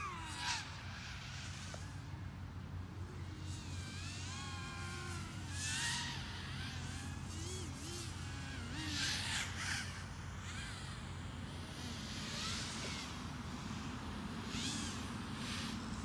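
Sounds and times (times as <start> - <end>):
quadcopter motors buzzing: 0.0 - 16.0.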